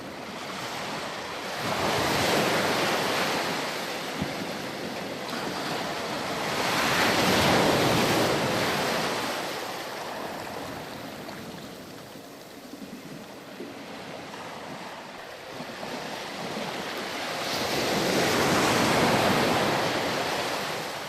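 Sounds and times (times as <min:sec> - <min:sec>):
waves breaking on a beach: 0:00.0 - 0:21.0.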